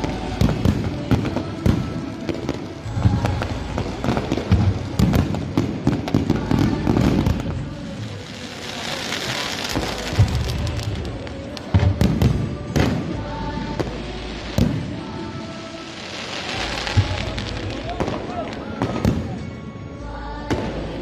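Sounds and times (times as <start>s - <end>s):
fireworks cracks and bangs: 0.0s - 19.7s
fireworks hissing crackle: 0.0s - 19.9s.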